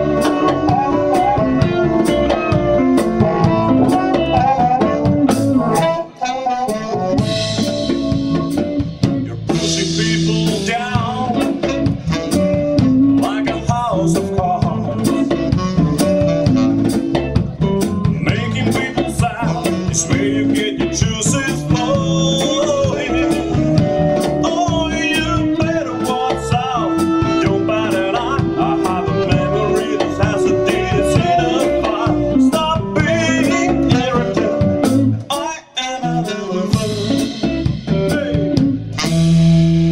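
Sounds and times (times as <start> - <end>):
man singing: 0.0 - 5.1, 9.0 - 16.6, 17.6 - 39.3
blues band playing: 0.0 - 39.9.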